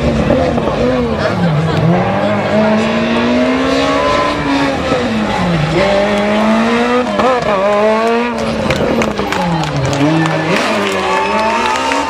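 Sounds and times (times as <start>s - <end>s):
rally car engine at full throttle: 0.0s - 12.0s.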